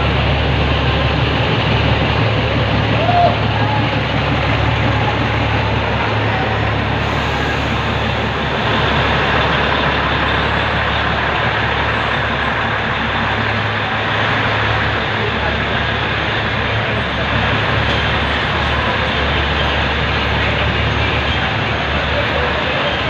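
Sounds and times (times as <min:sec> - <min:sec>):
train running with low hum: 0:00.0 - 0:23.0.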